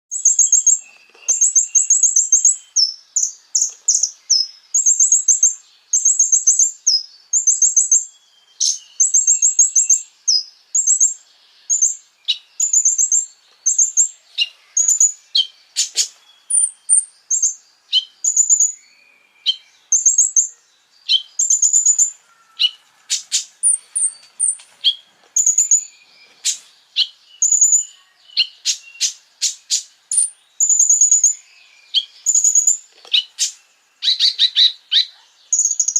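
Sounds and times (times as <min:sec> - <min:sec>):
bird trilling song: 0:00.1 - 0:35.9.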